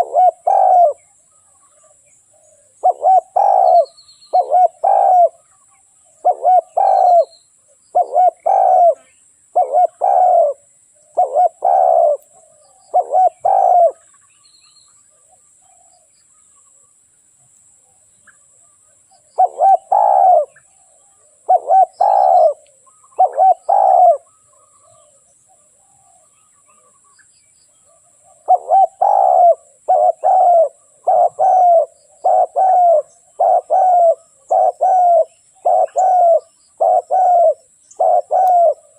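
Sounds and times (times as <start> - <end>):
dove cooing: 0.0 - 1.2, 1.8 - 14.1, 19.1 - 27.1, 27.8 - 38.9.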